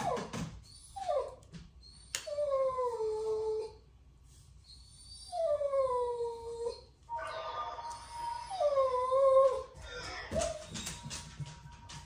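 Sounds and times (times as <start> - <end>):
dog whining: 0.0 - 3.9, 4.6 - 11.2.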